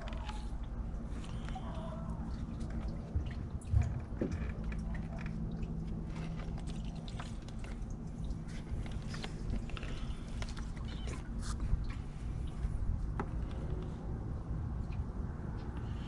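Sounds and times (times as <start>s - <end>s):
rubber hose squishing: 0.0s - 13.2s
coolant dripping: 0.0s - 16.0s
steady low hum: 0.0s - 16.0s.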